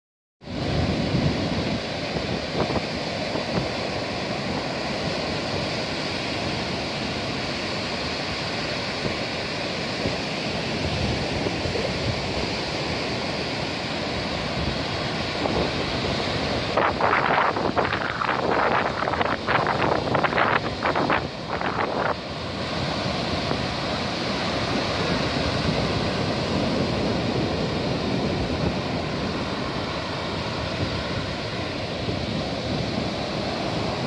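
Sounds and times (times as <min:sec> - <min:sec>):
surf breaking on beach: 0:00.4 - 0:34.0
wind rumbling on microphone: 0:00.4 - 0:34.0.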